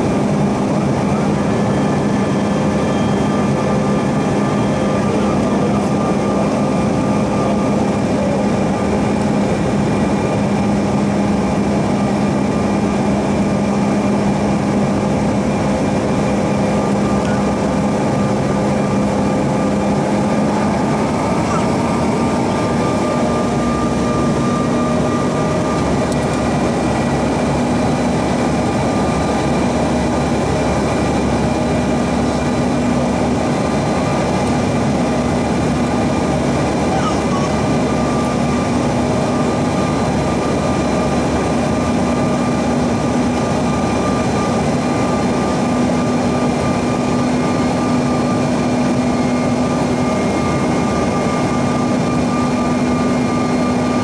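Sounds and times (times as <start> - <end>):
airflow rushing in aircraft cabin: 0.0 - 54.0
jet engines running: 0.0 - 54.0
steady whining tones: 0.0 - 54.0.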